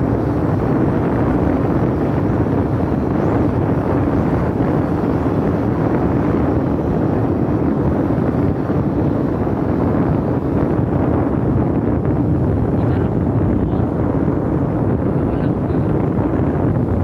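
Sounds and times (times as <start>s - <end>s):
vehicle engine drone: 0.0s - 17.0s
wind rushing over microphone: 0.0s - 17.0s.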